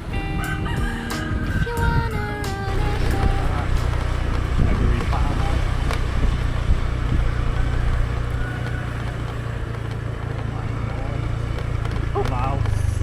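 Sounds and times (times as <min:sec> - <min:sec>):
motorbike engine hum: 0:00.0 - 0:13.0
wind buffeting microphone: 0:00.0 - 0:13.0.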